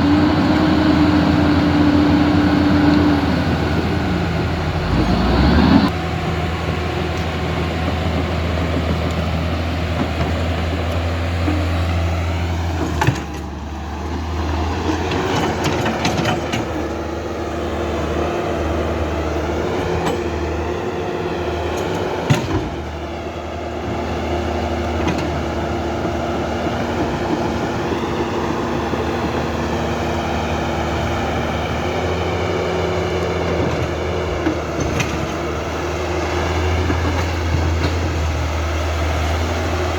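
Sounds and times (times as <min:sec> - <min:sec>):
model excavator motors whining: 0:00.0 - 0:39.9.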